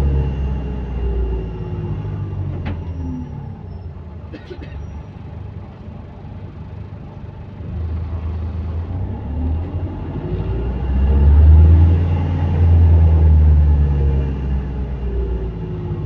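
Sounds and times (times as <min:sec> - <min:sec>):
bus diesel engine rumbling: 0:00.0 - 0:16.0.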